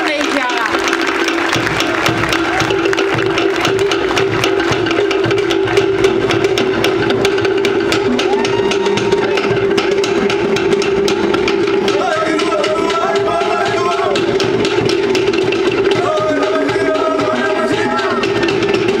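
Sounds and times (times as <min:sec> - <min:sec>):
fast wooden percussion over drums: 0:00.0 - 0:19.0.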